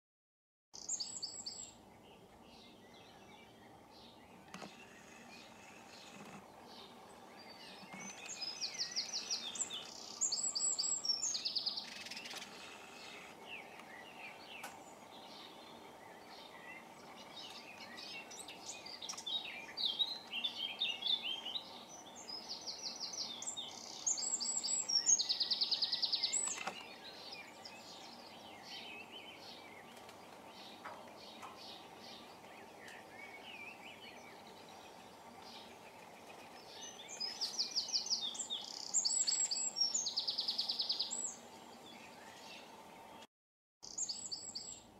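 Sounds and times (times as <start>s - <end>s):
robin singing: 0.8s - 44.9s.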